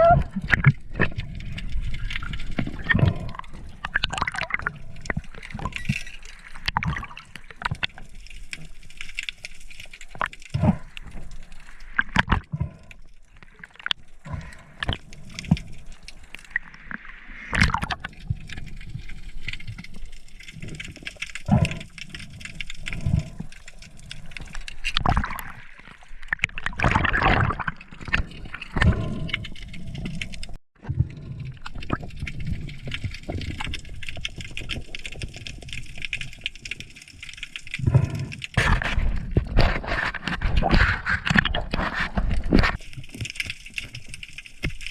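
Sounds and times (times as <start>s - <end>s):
water sloshing and gurgling: 0.0s - 44.9s.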